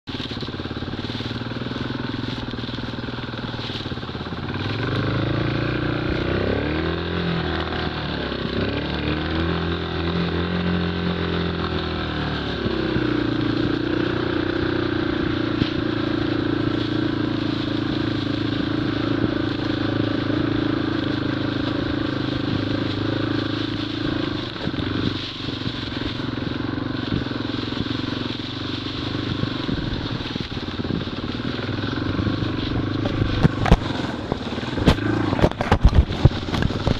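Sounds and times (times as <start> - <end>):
off-road motorcycle engine revving: 0.0 - 36.9.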